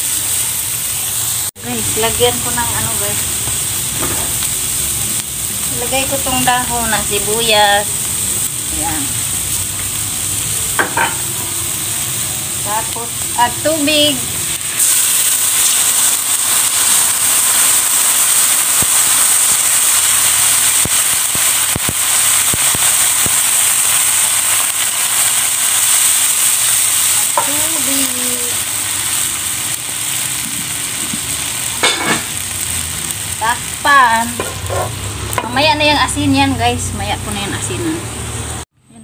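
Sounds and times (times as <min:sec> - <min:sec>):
food sizzling in a wok: 0:00.0 - 0:39.0.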